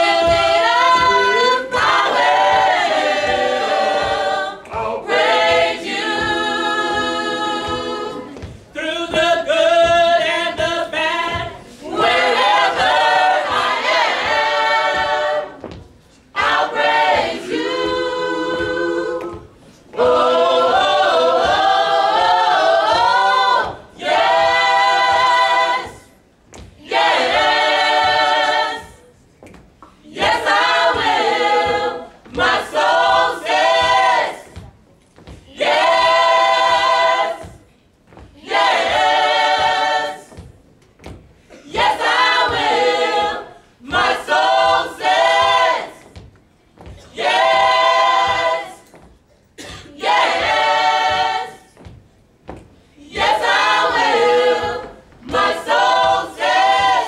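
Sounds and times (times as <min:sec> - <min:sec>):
gospel choir singing a cappella: 0:00.0 - 0:57.0.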